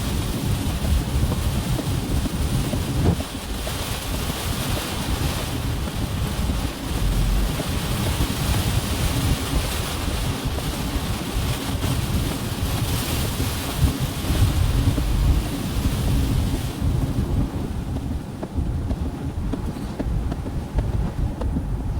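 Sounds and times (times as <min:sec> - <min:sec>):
strong wind on microphone: 0:00.0 - 0:21.9.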